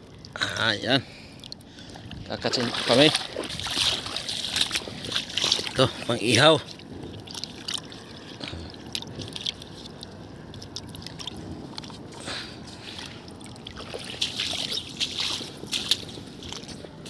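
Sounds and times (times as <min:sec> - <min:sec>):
water splashing with live fish: 0:01.1 - 0:17.0.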